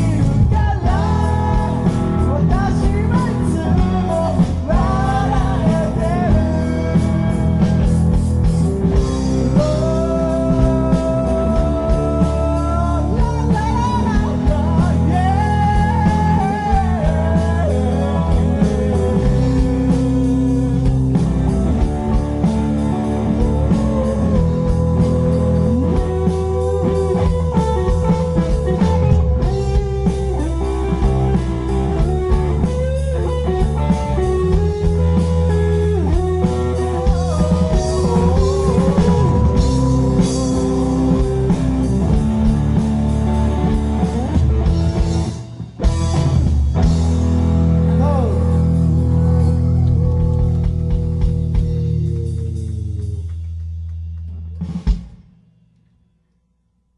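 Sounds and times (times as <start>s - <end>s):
electric guitar melody bending: 0.0s - 54.1s
live rock band: 0.0s - 55.4s.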